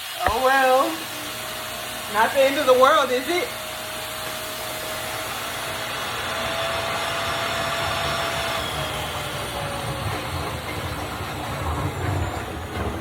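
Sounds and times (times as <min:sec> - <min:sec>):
vacuum cleaner sucking water: 0:00.0 - 0:13.0.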